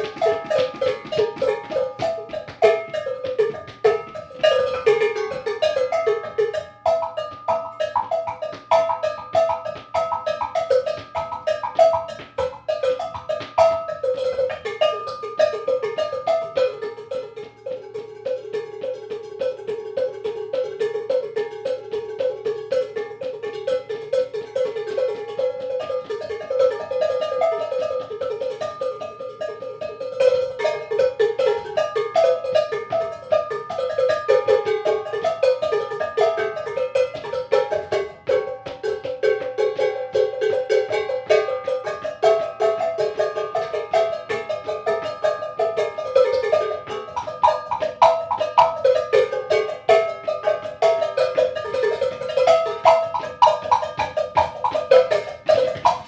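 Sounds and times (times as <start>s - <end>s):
tuned cowbells struck rapidly: 0.0s - 56.0s.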